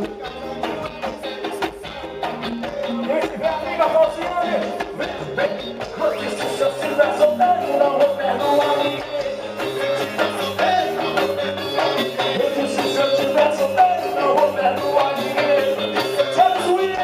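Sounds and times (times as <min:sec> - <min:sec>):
band playing dance music: 0:00.0 - 0:17.0.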